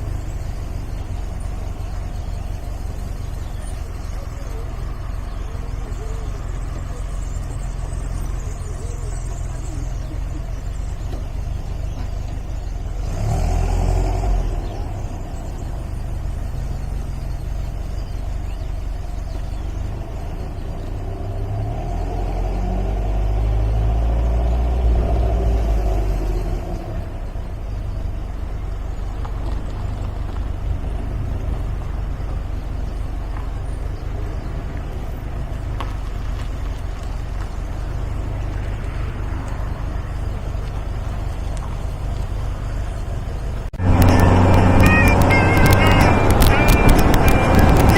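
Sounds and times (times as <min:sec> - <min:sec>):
car engine running: 0:00.0 - 0:47.9
road and wind noise: 0:00.0 - 0:47.9.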